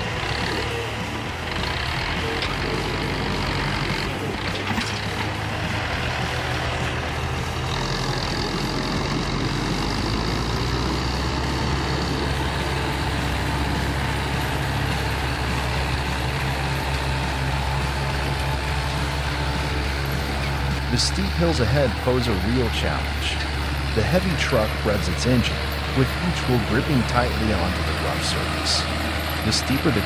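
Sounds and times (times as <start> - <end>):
diesel truck engine droning: 0.0 - 30.0.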